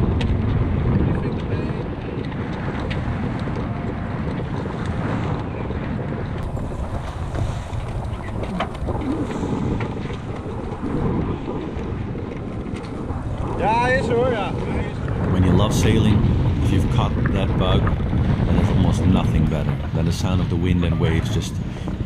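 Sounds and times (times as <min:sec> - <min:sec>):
strong wind buffeting microphone: 0:00.0 - 0:22.0
water rushing past hull: 0:00.0 - 0:22.0.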